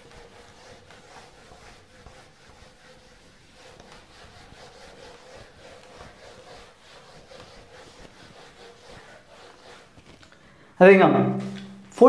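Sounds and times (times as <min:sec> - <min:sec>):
eraser wiping whiteboard: 0:00.0 - 0:10.3.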